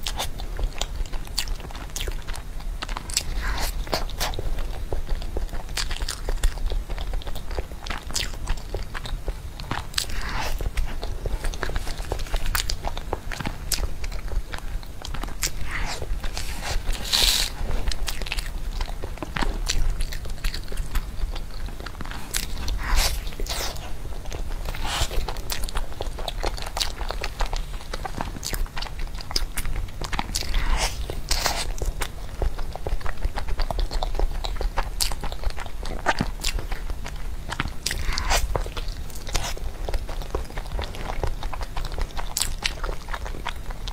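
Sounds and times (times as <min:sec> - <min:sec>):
chewing with wet mouth clicks: 0:00.0 - 0:43.9
crunchy bites: 0:00.0 - 0:43.9.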